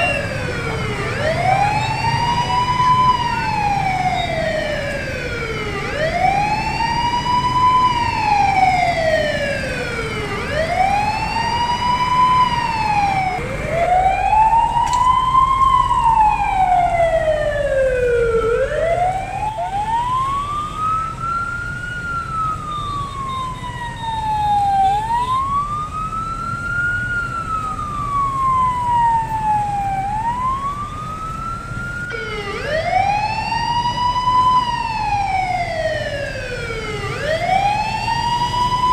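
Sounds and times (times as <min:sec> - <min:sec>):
engine and traffic rumble: 0:00.0 - 0:38.9
fire truck siren wailing: 0:00.0 - 0:38.9.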